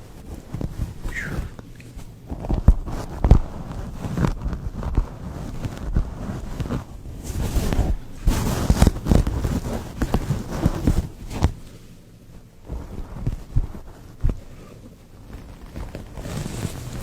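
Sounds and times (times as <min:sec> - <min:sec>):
scratching against microphone: 0:00.0 - 0:17.0.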